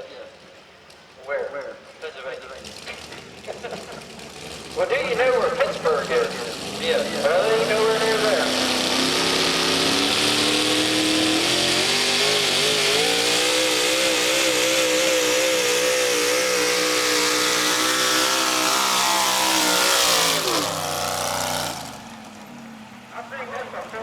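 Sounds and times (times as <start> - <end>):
truck engine at full throttle: 2.8 - 24.0.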